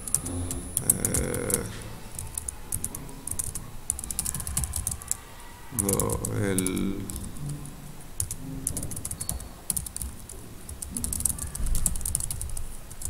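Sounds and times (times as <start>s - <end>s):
keyboard typing clicks: 0.0s - 5.2s, 5.8s - 13.0s.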